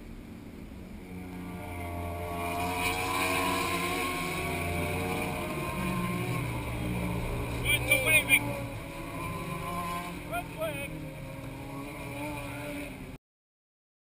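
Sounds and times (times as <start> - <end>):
racing motorbikes revving: 0.8 - 13.2.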